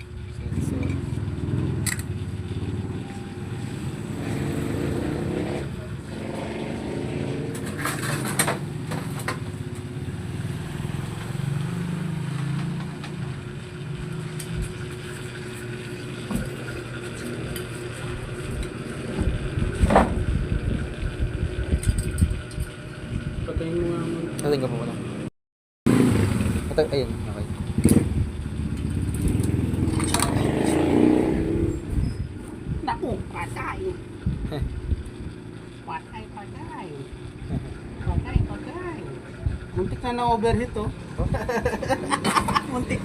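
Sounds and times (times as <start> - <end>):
engine low rumble: 0.0 - 25.3, 25.9 - 43.0.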